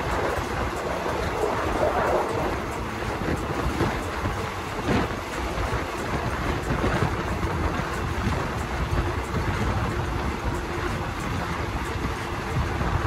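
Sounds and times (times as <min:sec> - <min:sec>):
rushing wind: 0:00.0 - 0:13.0
train rumbling: 0:00.0 - 0:13.0.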